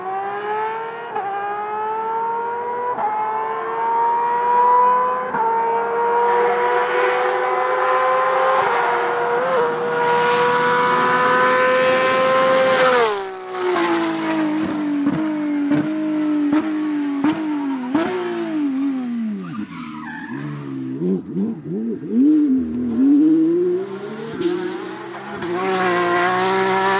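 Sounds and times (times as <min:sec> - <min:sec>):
rally car engine at full throttle: 0:00.0 - 0:26.9.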